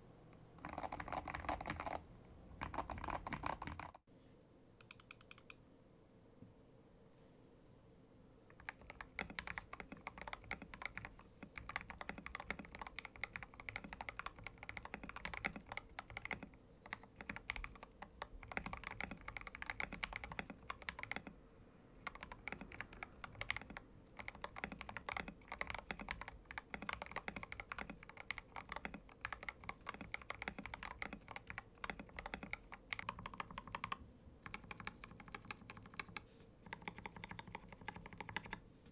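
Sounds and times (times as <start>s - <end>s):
mechanical keyboard typing: 0.6s - 2.0s, 2.6s - 4.0s, 4.8s - 5.6s, 8.5s - 21.4s, 22.0s - 38.6s.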